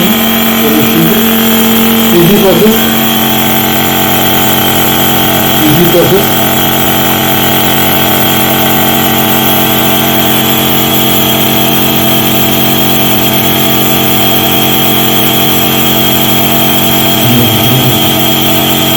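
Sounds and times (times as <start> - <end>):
nebulizer compressor humming: 0.0 - 18.9.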